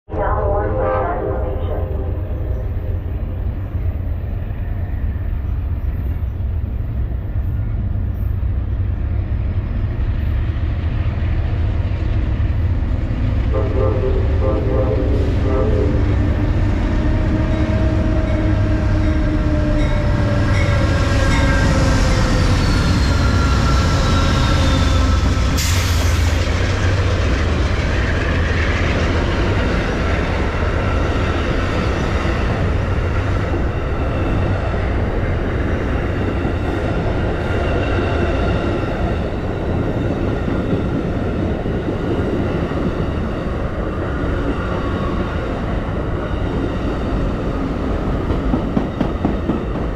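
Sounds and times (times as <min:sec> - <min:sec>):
train wheels rumbling on rails: 0:02.4 - 0:49.9.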